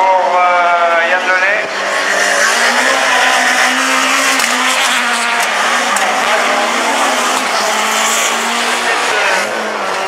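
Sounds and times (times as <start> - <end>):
race car engine droning: 0.0 - 10.0.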